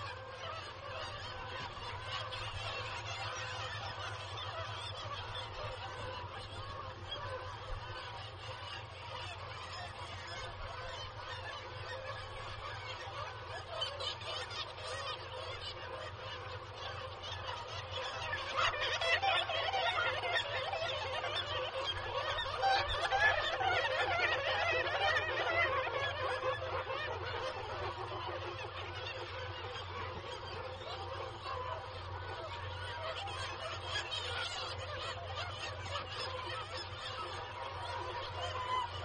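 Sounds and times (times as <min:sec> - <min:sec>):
seabird colony calling: 0:00.0 - 0:39.0.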